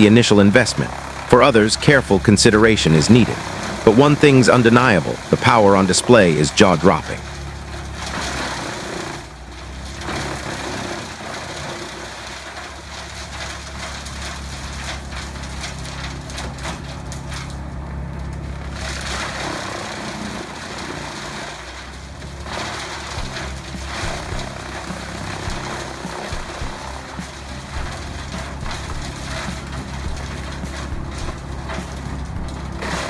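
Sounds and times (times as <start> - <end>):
shredding machine engine running: 0.0 - 33.0.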